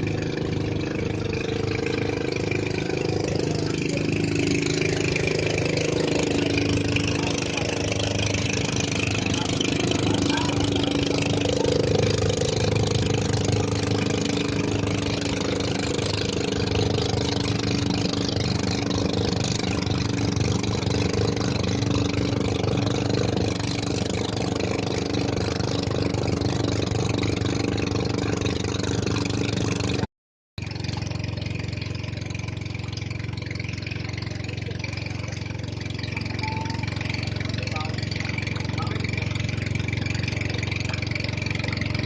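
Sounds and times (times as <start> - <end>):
small engine running: 0.0 - 42.0.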